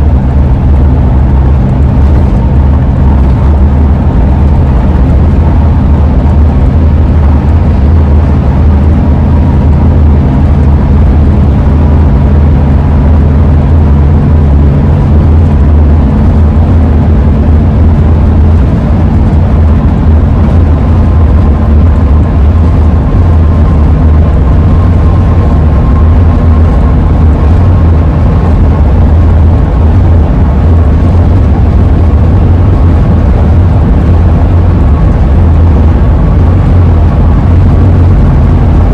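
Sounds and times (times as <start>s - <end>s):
road and engine rumble: 0.0s - 38.9s
wind howl: 0.0s - 38.9s.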